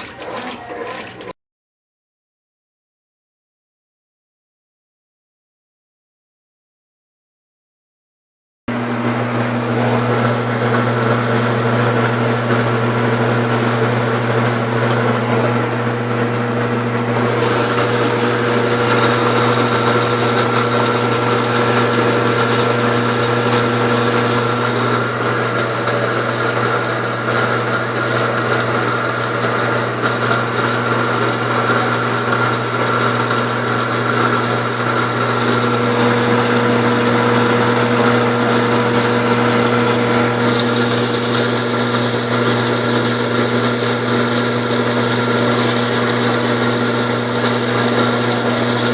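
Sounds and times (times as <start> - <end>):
washing machine motor hum: 0.0 - 1.3, 8.7 - 48.9.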